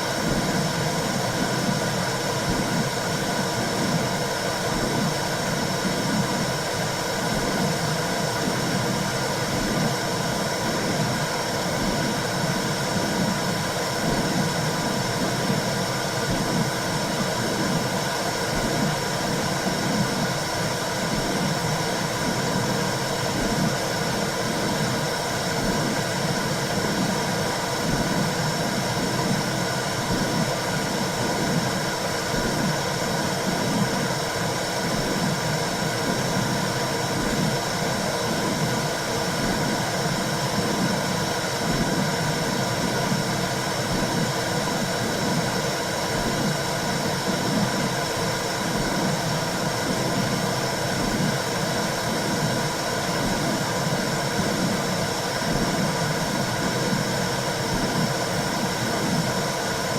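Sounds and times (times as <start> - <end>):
slow rhythmic heartbeat pulse: 0.0 - 59.9.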